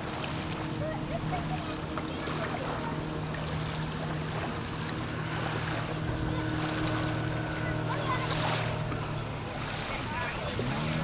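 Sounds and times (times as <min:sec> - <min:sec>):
water: 0:00.0 - 0:11.0
wind: 0:00.0 - 0:11.0.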